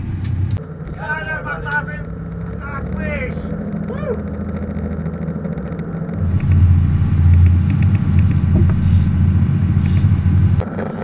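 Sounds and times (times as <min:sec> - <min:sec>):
boat engines rumbling: 0:00.0 - 0:10.6.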